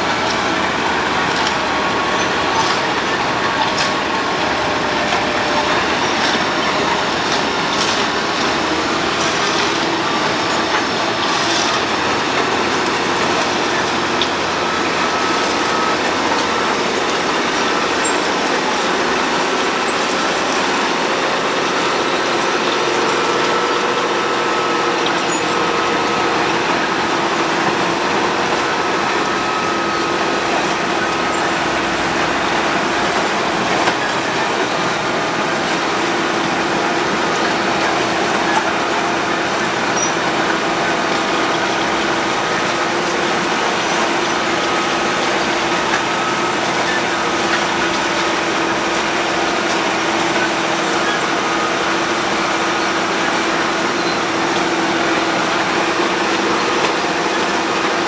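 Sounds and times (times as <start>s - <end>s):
road milling machine running: 0.0s - 58.0s.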